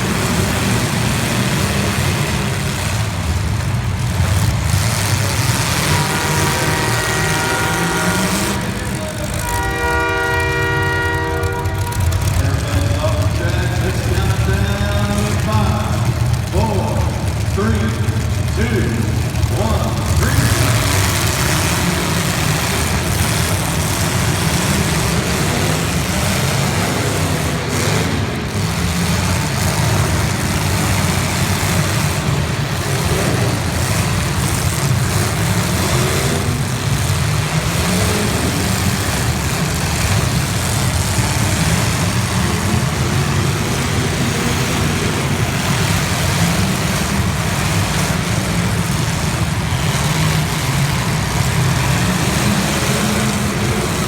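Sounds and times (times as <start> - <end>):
car engines running loud: 0.0 - 54.0.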